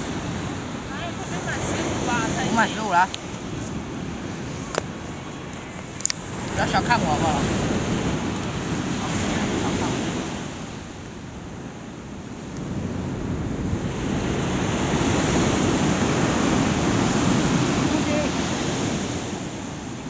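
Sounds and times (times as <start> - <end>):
ocean waves washing on beach: 0.0 - 20.0.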